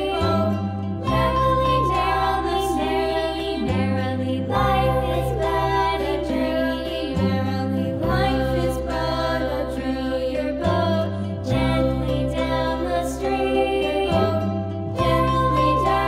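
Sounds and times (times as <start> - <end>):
steady low bass: 0.0 - 16.0
sustained held chords: 0.0 - 16.0.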